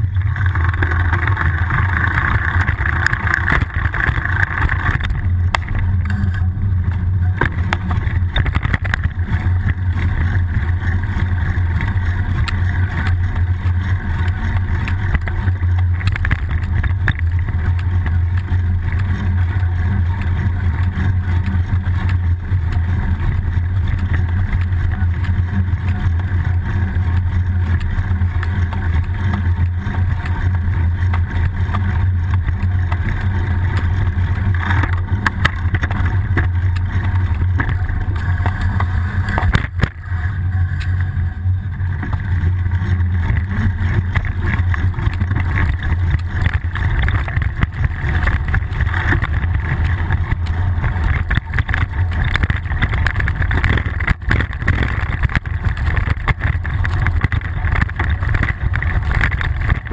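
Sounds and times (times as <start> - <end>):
wind buffeting and road rumble: 0.0 - 59.9.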